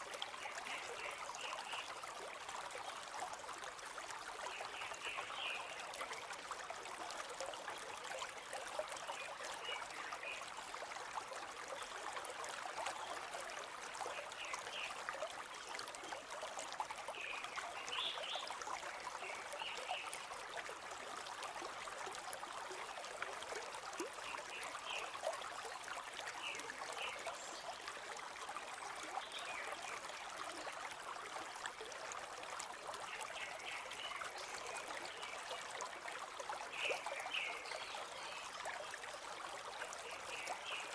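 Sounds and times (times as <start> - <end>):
river babbling over stones: 0.0 - 40.9.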